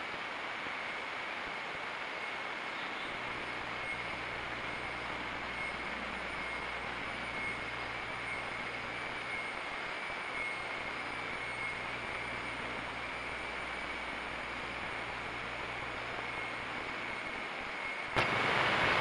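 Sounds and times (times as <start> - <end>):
background hiss: 0.0 - 19.0
faint high whine: 0.0 - 19.0
low hum: 2.8 - 19.0.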